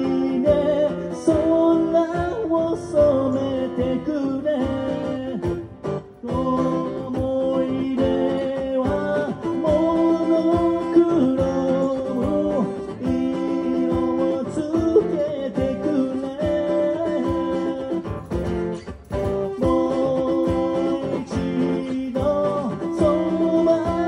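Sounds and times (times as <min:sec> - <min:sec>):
acoustic guitar strumming: 0:00.0 - 0:24.0
man singing: 0:00.0 - 0:24.0.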